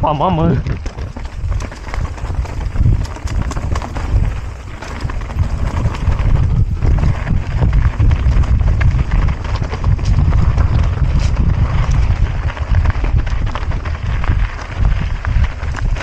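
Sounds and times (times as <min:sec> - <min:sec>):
mountain bike rattling over rocks: 0:00.0 - 0:16.0.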